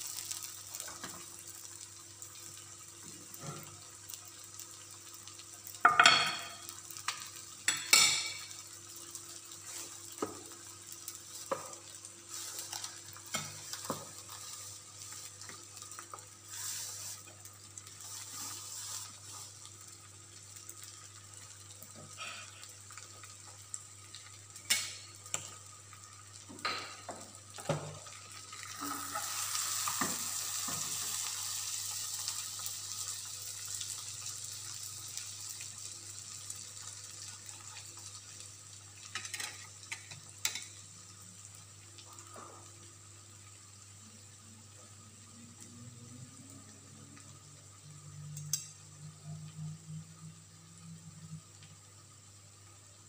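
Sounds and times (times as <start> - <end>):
sauce sizzling in frying pan: 0.0 - 53.0.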